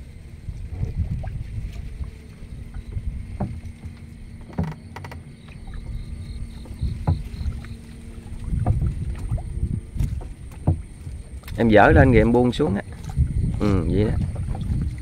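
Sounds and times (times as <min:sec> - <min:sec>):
water splashing and dripping: 0:00.0 - 0:15.0
knocks against boat: 0:02.8 - 0:14.8.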